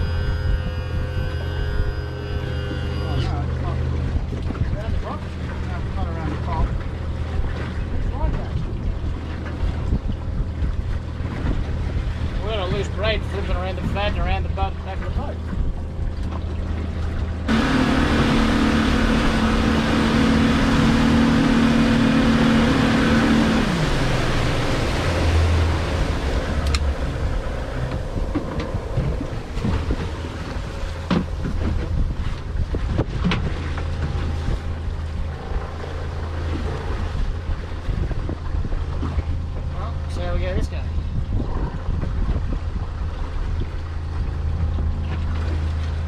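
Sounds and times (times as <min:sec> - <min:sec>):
boat engine: 0:00.0 - 0:46.0
rushing water: 0:00.0 - 0:46.0
water sloshing against hull: 0:00.0 - 0:46.0
wind: 0:00.0 - 0:46.0.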